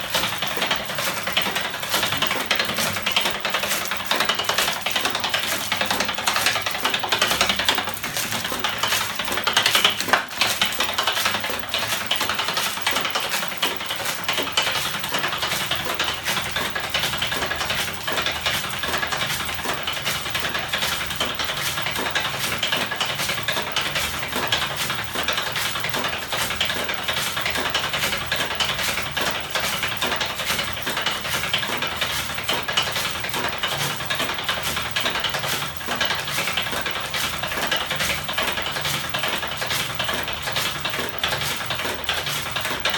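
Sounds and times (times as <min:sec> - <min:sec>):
machine clattering with rapid clicks: 0:00.0 - 0:42.9.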